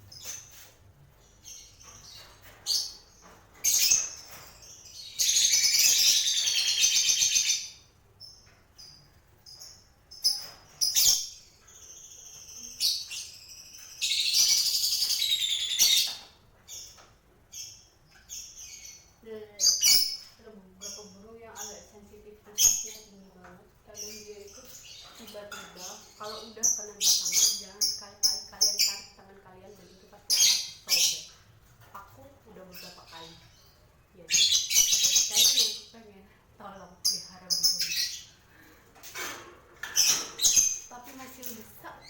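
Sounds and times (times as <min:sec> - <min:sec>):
lovebirds chattering: 0:00.0 - 0:42.0
lovebirds chirping: 0:00.0 - 0:42.0.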